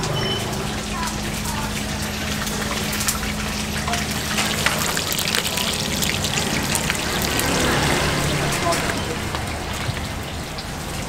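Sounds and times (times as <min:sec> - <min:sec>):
liquid trickling and splashing: 0:00.0 - 0:11.0.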